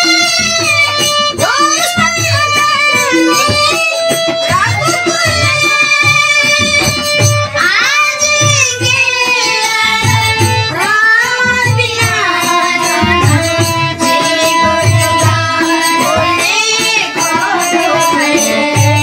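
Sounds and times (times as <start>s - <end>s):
held instrumental tones: 0.0s - 19.0s.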